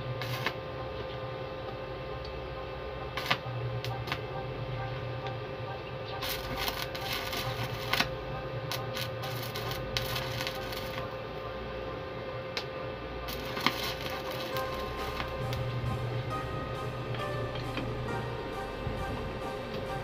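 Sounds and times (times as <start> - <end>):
welding arc crackling: 0.0 - 1.2, 2.2 - 11.4, 12.6 - 20.0
steady low hum: 0.0 - 20.0.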